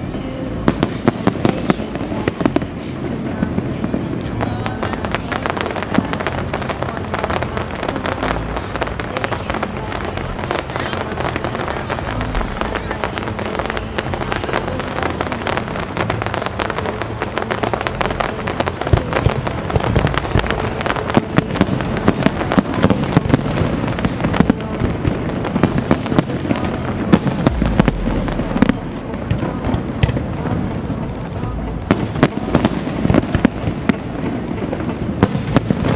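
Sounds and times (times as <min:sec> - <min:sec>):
fireworks bangs and crackles: 0:00.0 - 0:35.9
music playing: 0:00.0 - 0:35.9.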